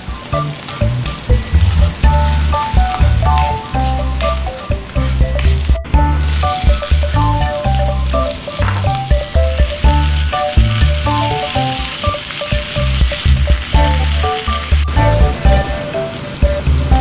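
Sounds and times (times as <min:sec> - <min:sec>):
background music with bass line: 0:00.0 - 0:17.0
eggplant sizzling in frying pan: 0:00.0 - 0:17.0.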